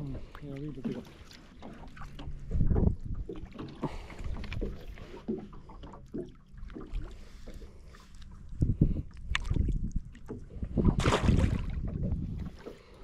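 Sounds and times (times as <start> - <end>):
water slapping against boat hull: 0.0 - 13.0.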